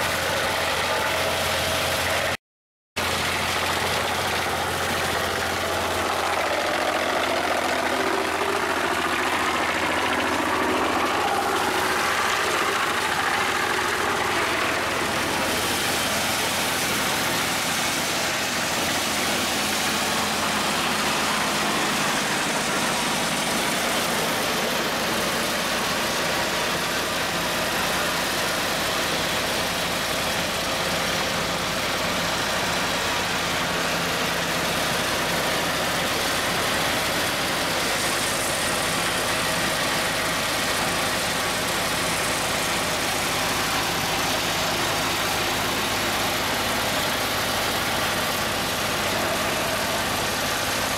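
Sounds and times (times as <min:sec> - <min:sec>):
wood chipper engine running: 0:00.0 - 0:02.4, 0:03.0 - 0:50.9.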